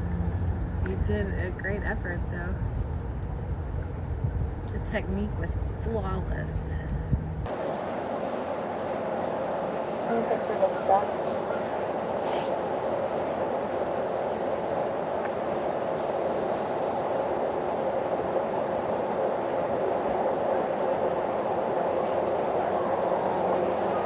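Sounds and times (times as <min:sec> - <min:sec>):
constant noisy hiss: 0:00.0 - 0:24.0
high insect chorus pulsing: 0:00.0 - 0:24.0.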